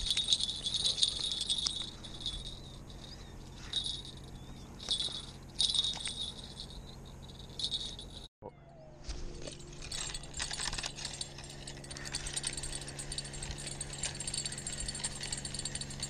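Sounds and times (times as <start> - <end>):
bite-alarm bell jingling: 0.0 - 8.3, 9.4 - 16.0.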